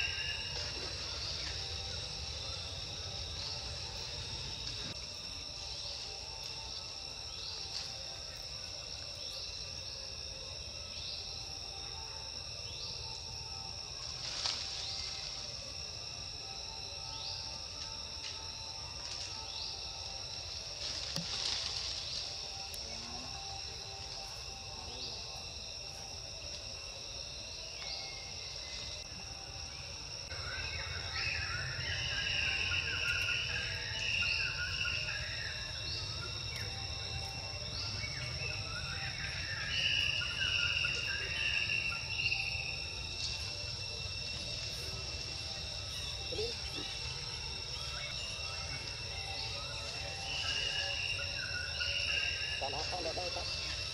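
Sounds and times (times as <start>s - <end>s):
insects chirping: 0.0s - 53.9s
scratchy insect chirping: 0.0s - 53.9s.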